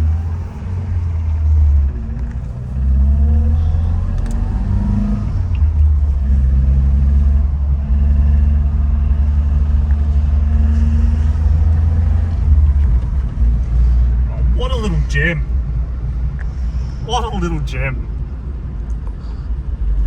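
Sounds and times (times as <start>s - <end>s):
car engine running while driven: 0.0s - 20.0s.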